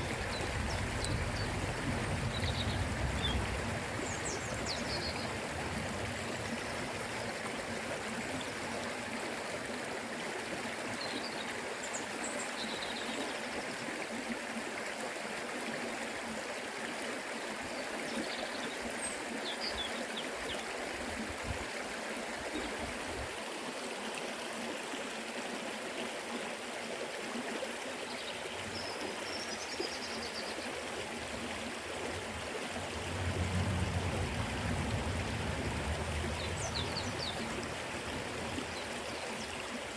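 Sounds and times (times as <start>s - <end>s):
river water rushing: 0.0s - 17.8s, 20.1s - 39.9s
deep water rush: 0.0s - 23.4s, 28.0s - 39.9s.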